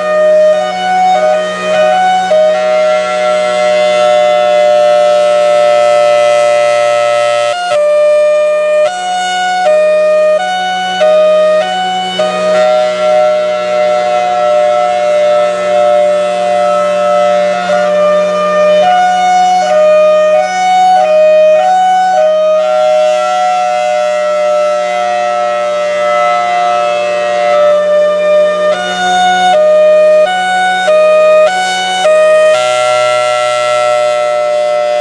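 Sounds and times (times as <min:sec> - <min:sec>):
warning siren hi-lo wail: 0:00.0 - 0:35.0.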